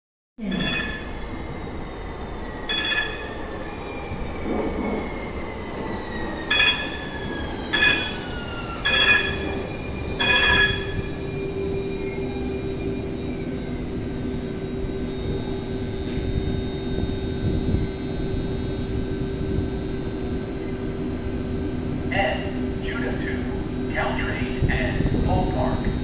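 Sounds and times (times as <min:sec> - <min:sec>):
electric train whine: 0:00.4 - 0:26.0
steady train hum: 0:00.4 - 0:26.0
shrill wheel squeals: 0:00.5 - 0:23.9.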